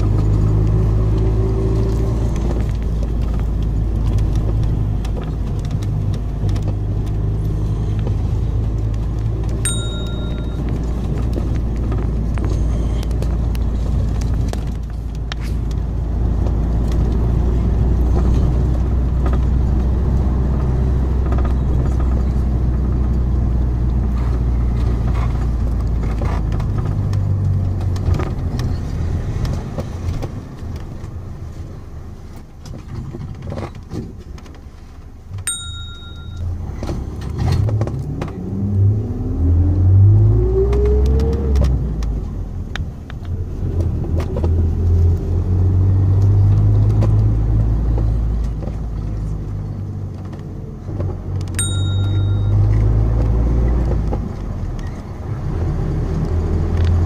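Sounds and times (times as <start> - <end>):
road vehicle engine droning: 0.0 - 57.0.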